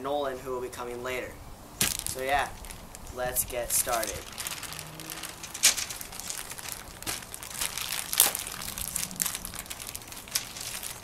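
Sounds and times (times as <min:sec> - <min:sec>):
plastic packaging crinkling: 0:01.8 - 0:11.0.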